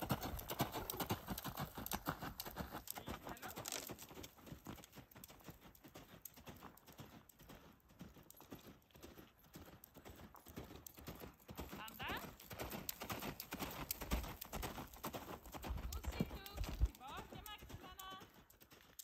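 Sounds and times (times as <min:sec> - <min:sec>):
horse hoofbeats on gravel: 0:00.0 - 0:19.0.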